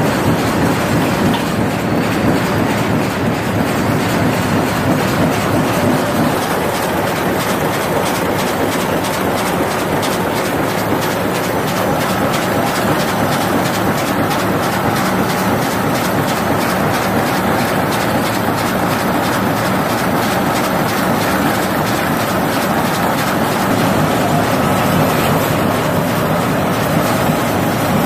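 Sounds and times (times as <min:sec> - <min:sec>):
fast rattle of board sheets feeding: 0:00.0 - 0:28.0
printing machine running: 0:00.0 - 0:28.0.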